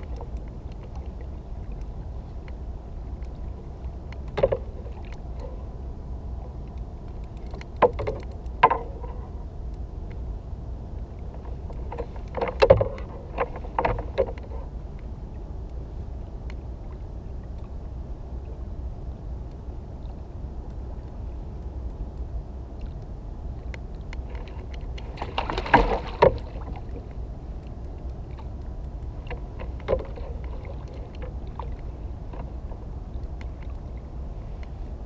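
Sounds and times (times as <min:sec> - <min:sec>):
rumble of open water and wind: 0:00.0 - 0:35.0.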